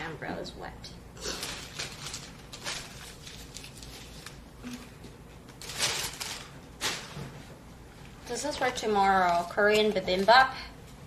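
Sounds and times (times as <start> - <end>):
grocery bag rustling: 1.2 - 5.0, 5.6 - 10.7.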